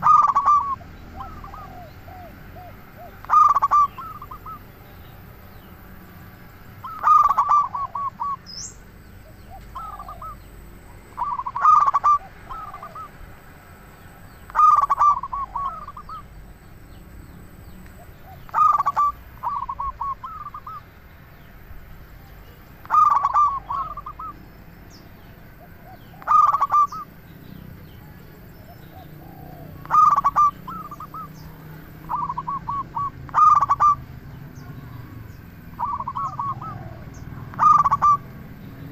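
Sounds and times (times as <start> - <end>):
dove cooing: 0.0 - 5.8, 6.7 - 13.4, 14.2 - 20.9, 22.8 - 24.5, 25.4 - 38.9.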